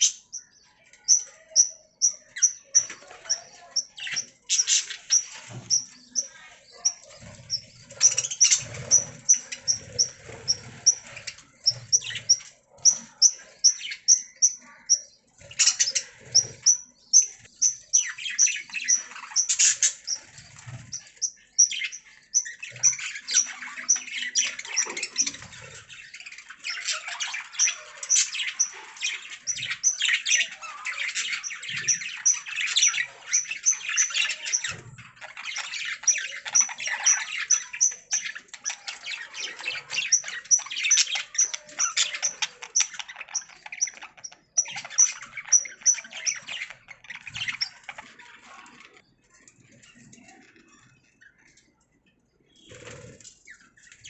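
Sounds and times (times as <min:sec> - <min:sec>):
budgerigars chattering: 0:01.1 - 0:49.0
birds squawking: 0:01.6 - 0:48.2.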